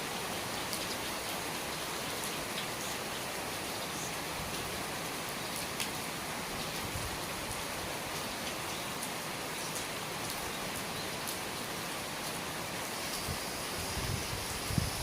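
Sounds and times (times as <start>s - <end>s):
rain pattering: 0.0s - 15.0s
water dripping from eaves: 0.0s - 15.0s.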